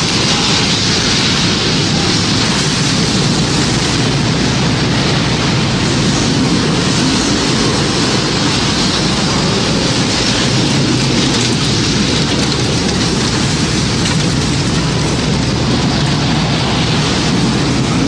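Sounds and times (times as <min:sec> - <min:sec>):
deep rumble: 0:00.0 - 0:18.0
heavy rain: 0:00.0 - 0:18.0
rushing wind: 0:00.0 - 0:18.0.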